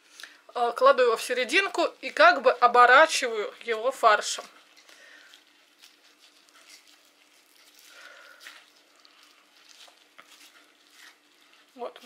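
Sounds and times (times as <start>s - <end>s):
minced meat squishing: 0.0s - 12.0s
plastic gloves rustling: 0.0s - 12.0s.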